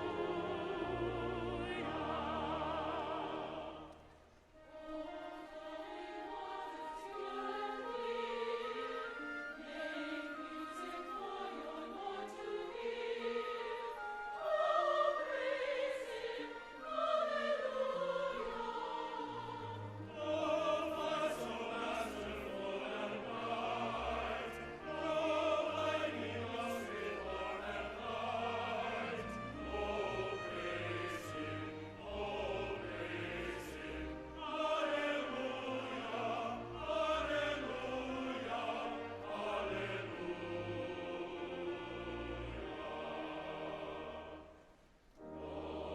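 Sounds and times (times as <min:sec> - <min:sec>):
choir singing classical piece: 0:00.0 - 0:45.9.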